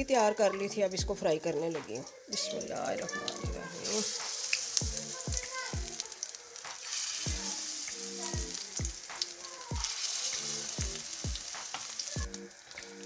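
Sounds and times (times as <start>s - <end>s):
background music with steady beat: 0.0s - 13.0s
patties sizzling in a pan: 2.2s - 13.0s.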